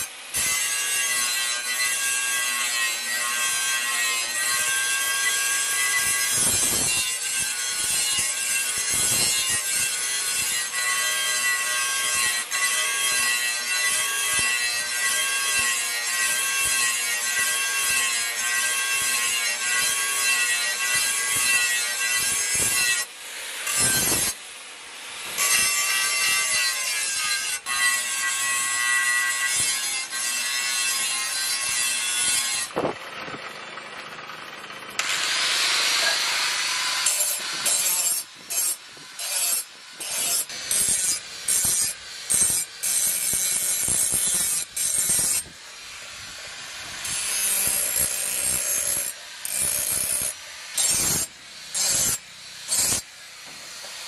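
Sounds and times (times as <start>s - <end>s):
angle grinder grinding metal: 0.0s - 24.5s, 25.1s - 33.4s, 34.9s - 54.0s.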